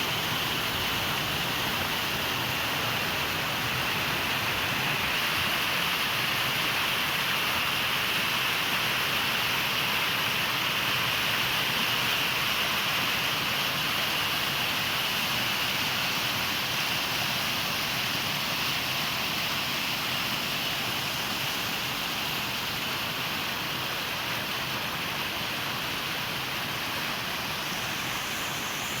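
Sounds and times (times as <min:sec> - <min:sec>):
waterfall pouring: 0:00.0 - 0:29.0.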